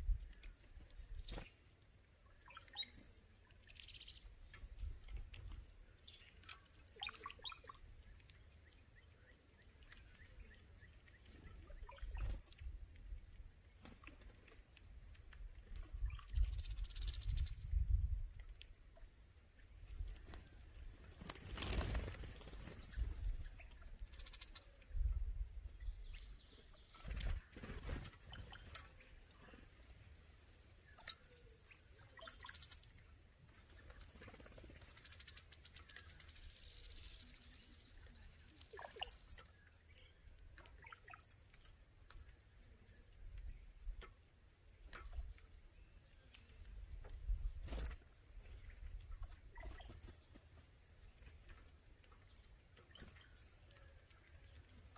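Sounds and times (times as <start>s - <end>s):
birds chirping: 0.2s - 5.0s, 5.8s - 14.3s, 19.0s - 44.0s, 47.6s - 54.9s.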